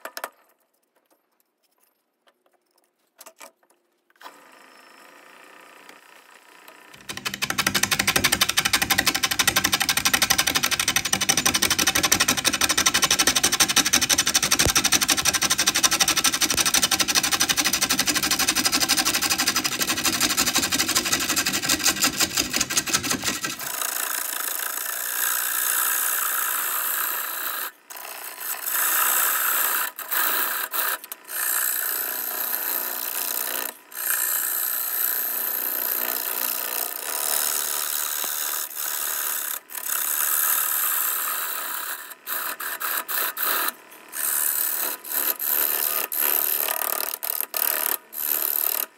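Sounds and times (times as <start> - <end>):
power tool cutting wood: 4.2 - 48.9.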